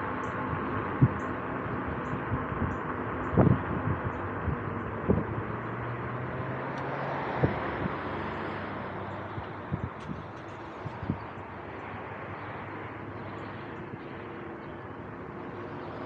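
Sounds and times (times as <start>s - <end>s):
road noise: 0.0s - 16.0s
wind rush: 0.0s - 16.0s.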